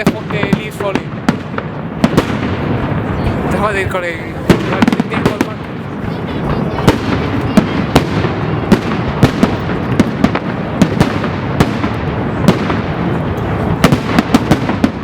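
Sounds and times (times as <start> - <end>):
fireworks bangs and pops: 0.0 - 15.0
fireworks crackling: 0.0 - 15.0.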